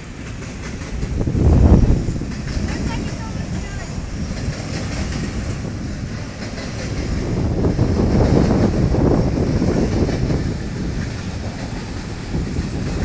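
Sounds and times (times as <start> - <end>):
train rumbling on bridge: 0.0 - 13.0
wind on microphone: 0.2 - 13.0.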